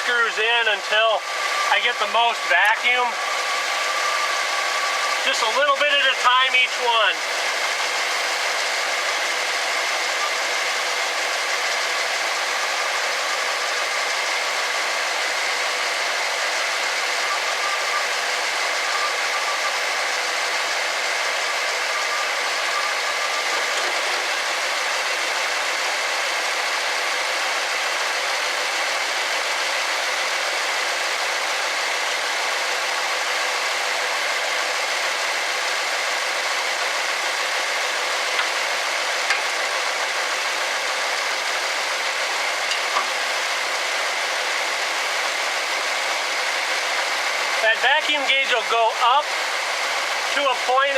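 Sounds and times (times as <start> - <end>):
car engine idling: 0.0 - 50.4.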